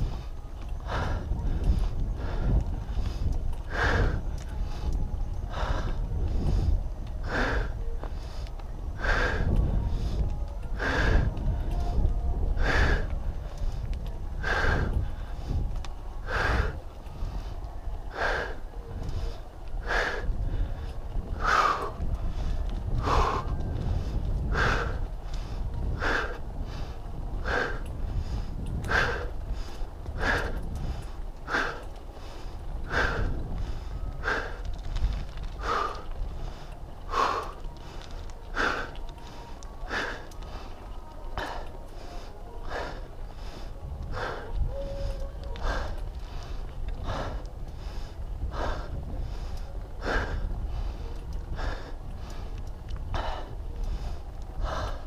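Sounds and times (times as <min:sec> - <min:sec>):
cyclist breathing hard: 0:00.0 - 0:55.0
steady low rumble: 0:00.0 - 0:55.0.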